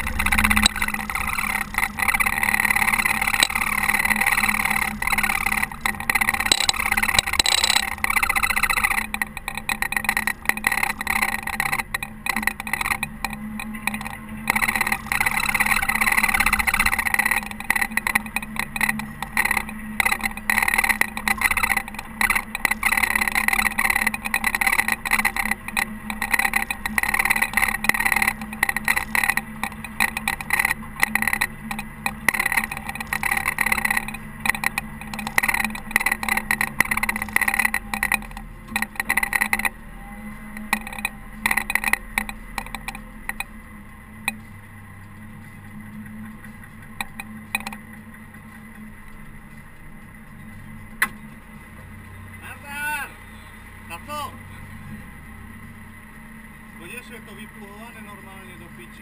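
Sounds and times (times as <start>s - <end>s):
telehandler engine drone: 0.0s - 59.0s.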